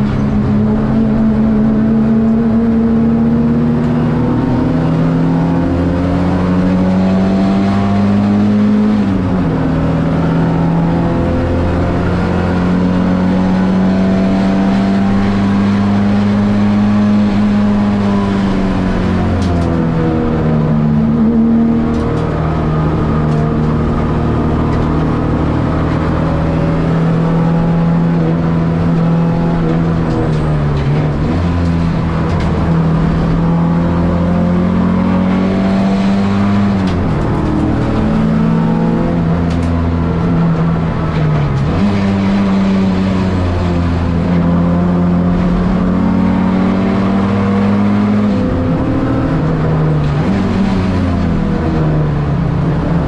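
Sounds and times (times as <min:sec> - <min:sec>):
car engine revving hard: 0:00.0 - 0:53.0.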